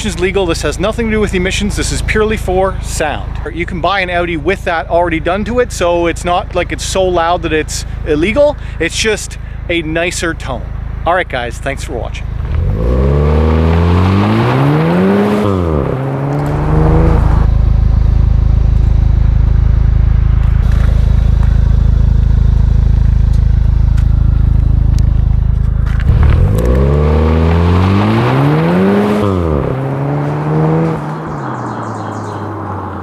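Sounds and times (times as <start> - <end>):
car exhaust revving and idling: 0.0 - 33.0.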